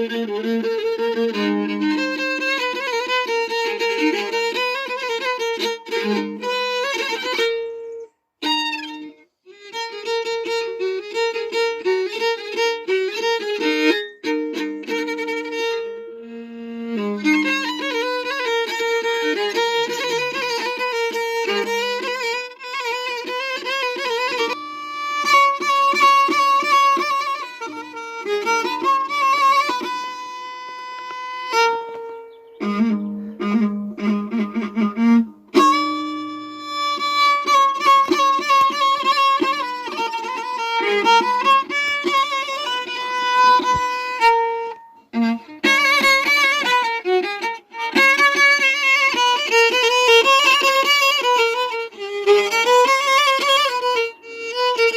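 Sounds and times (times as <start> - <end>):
violin melody: 0.0 - 54.9.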